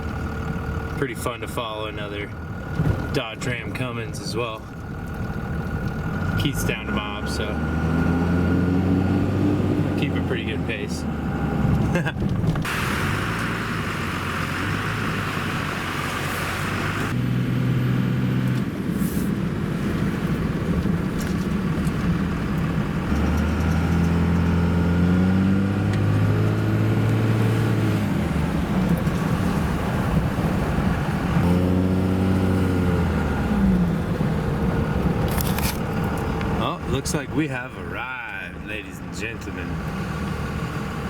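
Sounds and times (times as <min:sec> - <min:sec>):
pickup truck engine drone: 0:00.0 - 0:41.0
road noise: 0:00.0 - 0:41.0.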